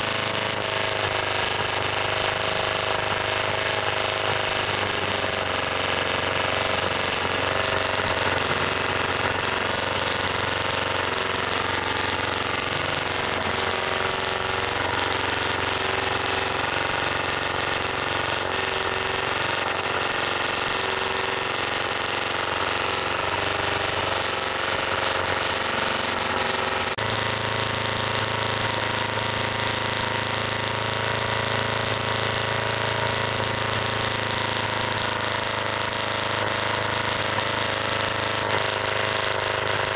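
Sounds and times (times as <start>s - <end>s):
model engine running: 0.0s - 39.9s.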